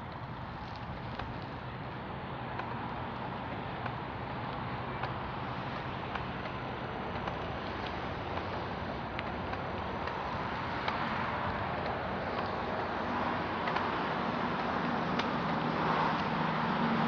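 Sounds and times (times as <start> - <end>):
bicycle tyres rolling on pavement: 0.0 - 17.0
bike clicks and rattles: 0.0 - 17.0.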